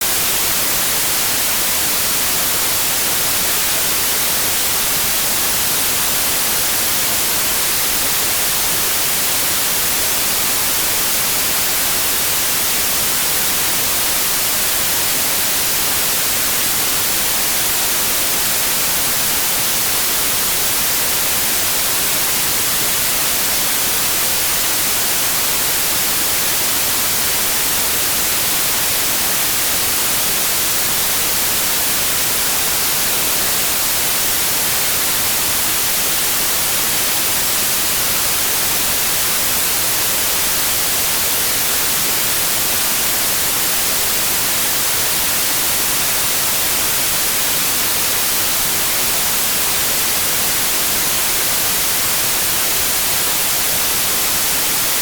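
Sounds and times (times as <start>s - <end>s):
steady white noise hiss: 0.0s - 55.0s.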